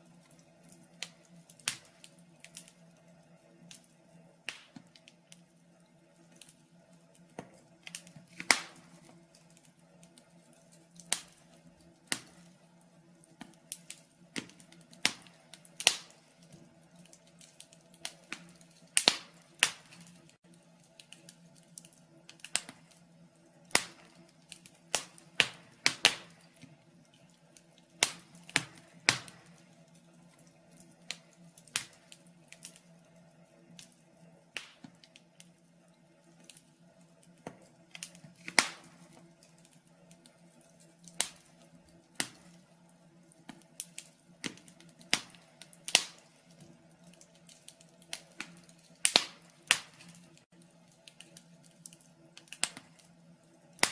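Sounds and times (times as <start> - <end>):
faint steady hum: 0.0 - 53.9
fireplace fire crackling: 0.0 - 53.9.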